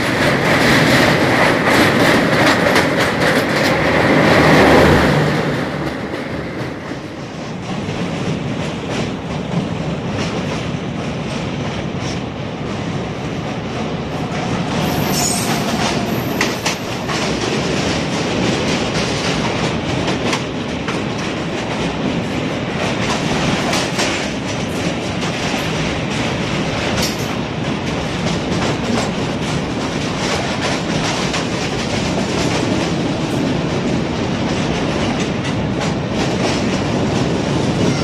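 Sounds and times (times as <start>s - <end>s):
train wheels rumbling on rails: 0.0s - 38.0s
wheels clacking on rail joints: 0.0s - 38.0s.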